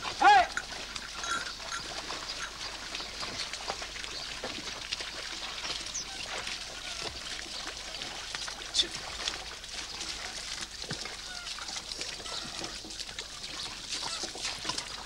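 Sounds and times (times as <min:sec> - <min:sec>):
hooves and plough sloshing in mud: 0:00.0 - 0:15.0
water and mud splashing: 0:00.0 - 0:15.0.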